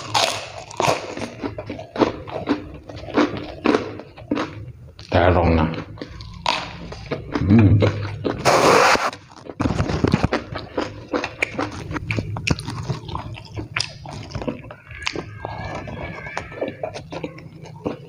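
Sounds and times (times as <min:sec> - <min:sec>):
wet crunchy chewing: 0:00.0 - 0:18.0.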